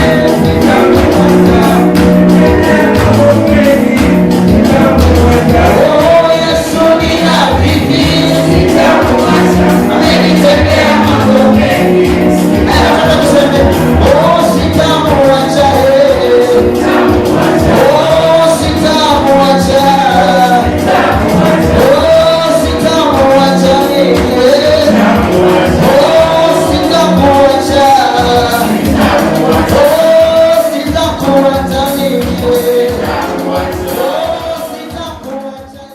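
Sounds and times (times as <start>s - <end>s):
song with singing over beat: 0.0s - 35.9s.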